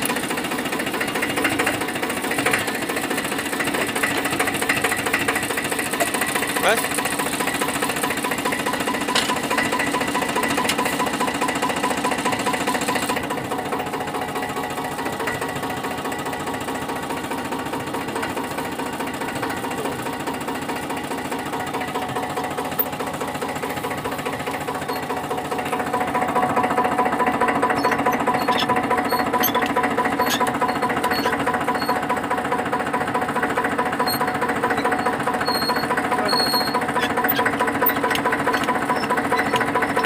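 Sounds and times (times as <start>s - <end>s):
stationary engine running: 0.0s - 40.0s.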